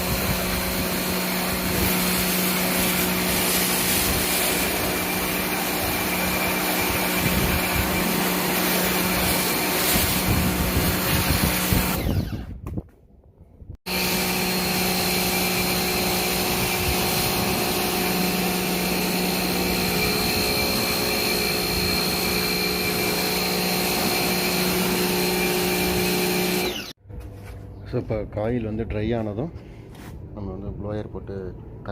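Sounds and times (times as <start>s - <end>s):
motor-driven machine whining: 0.0s - 12.5s, 13.9s - 27.0s.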